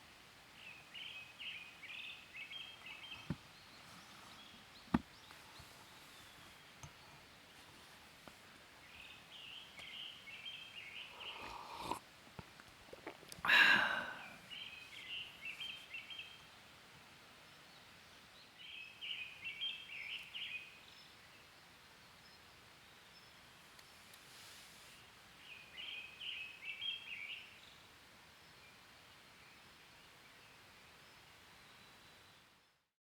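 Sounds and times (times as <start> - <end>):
songbird singing: 0.0 - 12.0, 13.0 - 16.6, 17.4 - 24.2, 24.9 - 32.8
quiet outdoor background: 0.0 - 33.0.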